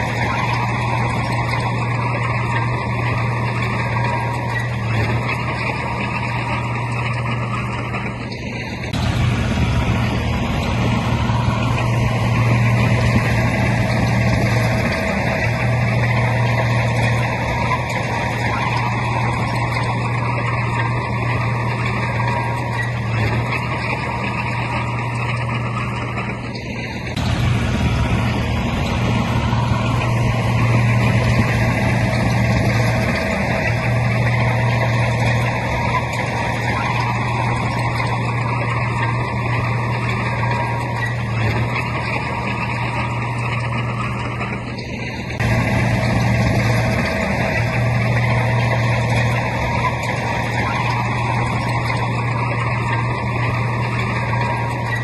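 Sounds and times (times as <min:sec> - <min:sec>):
diesel engine drone: 0:00.0 - 0:55.0
mechanical grinding: 0:00.0 - 0:55.0.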